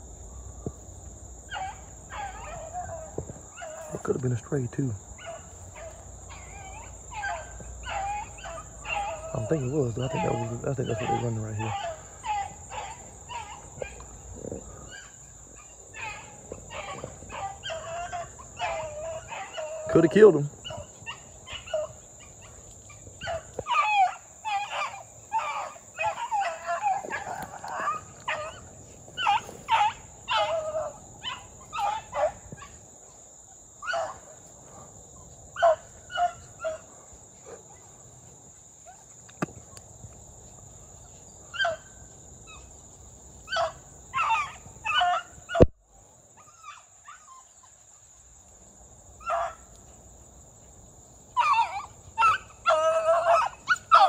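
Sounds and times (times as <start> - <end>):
dogs baying: 1.4 - 45.7, 46.3 - 48.2, 49.2 - 54.0.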